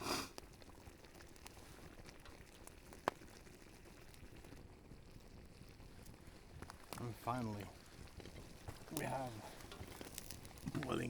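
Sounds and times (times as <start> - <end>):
pot of water bubbling: 0.0 - 11.0
campfire ticks and pop: 0.3 - 11.0.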